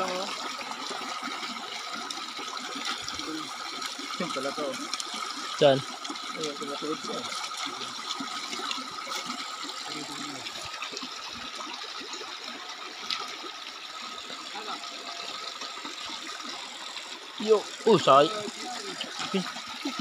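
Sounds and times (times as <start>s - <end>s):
stream water splashing over rocks: 0.0s - 20.0s.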